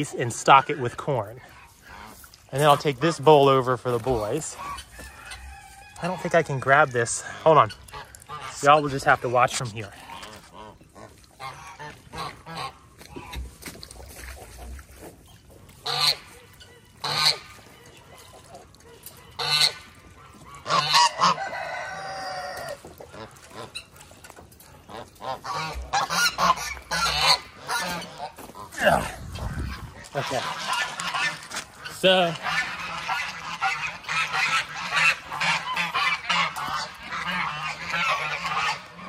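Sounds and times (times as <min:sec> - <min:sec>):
geese honking: 0:00.0 - 0:14.7, 0:15.6 - 0:39.0.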